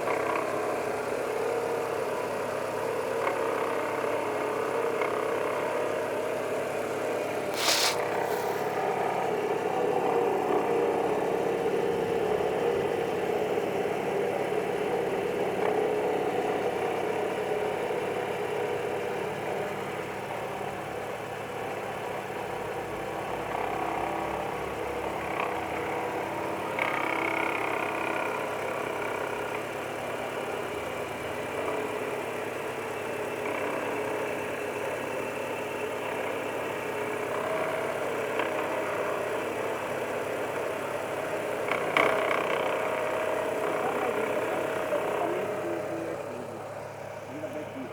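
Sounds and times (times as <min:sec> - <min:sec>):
car engine running with knocking: 0:00.0 - 0:47.9.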